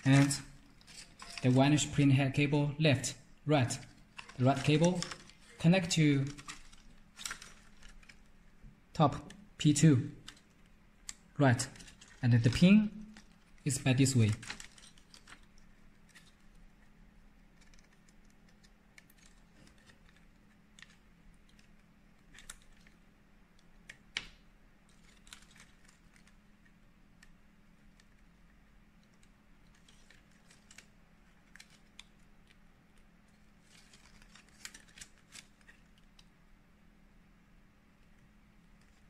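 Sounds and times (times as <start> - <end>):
ribbon cables clicking and crinkling: 0.0 - 2.0, 3.1 - 36.5, 38.0 - 39.0
low steady hum: 0.0 - 39.0.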